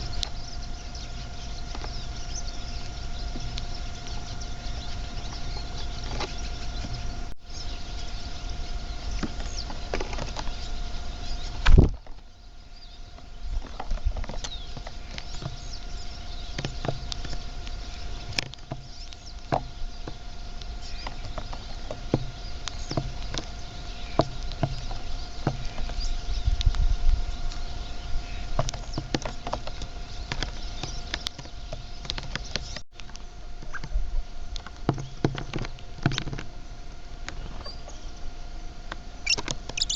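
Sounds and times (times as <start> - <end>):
birds chirping: 0.0 - 39.9
steady hum: 0.0 - 39.9.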